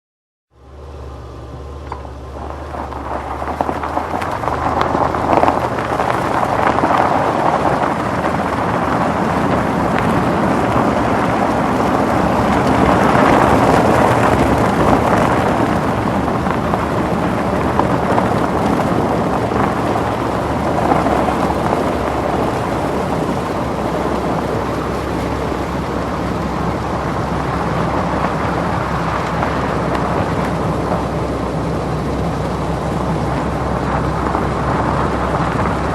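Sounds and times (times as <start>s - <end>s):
low engine hum: 0.5s - 35.9s
tyres hissing on wet road: 2.2s - 35.9s.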